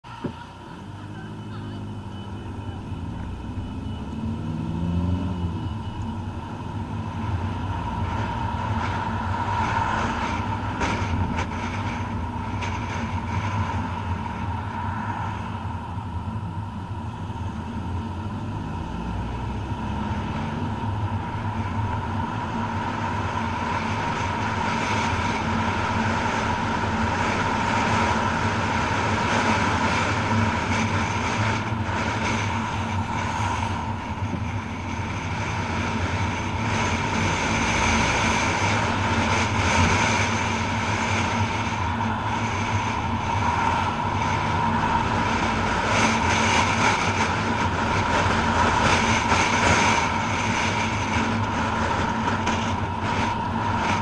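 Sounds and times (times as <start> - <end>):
car engine: 0.0 - 54.0.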